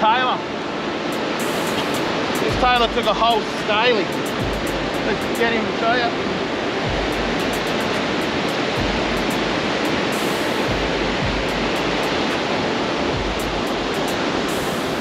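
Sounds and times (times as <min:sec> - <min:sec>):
surf breaking on beach: 0:01.1 - 0:15.0.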